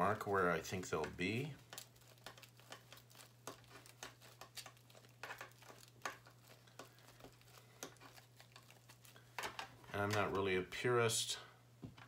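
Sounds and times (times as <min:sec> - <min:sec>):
clay pressed onto foil crinkling: 0:00.0 - 0:10.4.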